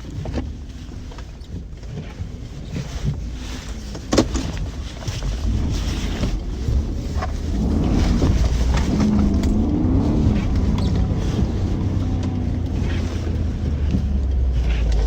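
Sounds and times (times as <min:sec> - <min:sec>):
engine rumble inside car: 0:00.0 - 0:15.0.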